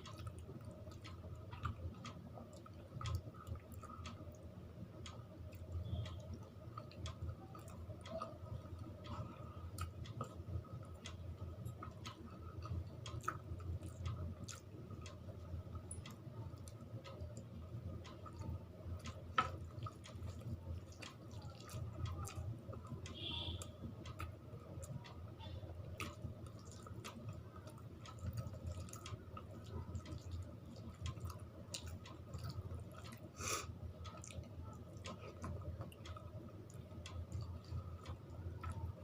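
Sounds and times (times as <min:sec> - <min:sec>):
person chewing food: 0:00.0 - 0:23.1, 0:24.0 - 0:39.0.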